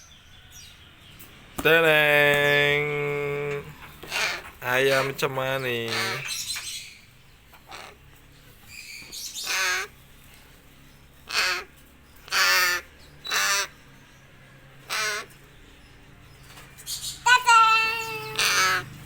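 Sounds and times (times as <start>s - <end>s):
bird cawing: 1.8s - 19.0s.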